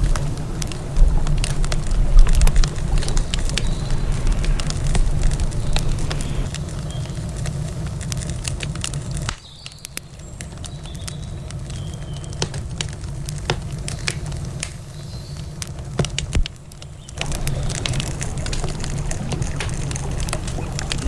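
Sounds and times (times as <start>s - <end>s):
low fire rumble: 0.0s - 21.0s
wood campfire crackling and popping: 0.0s - 21.0s.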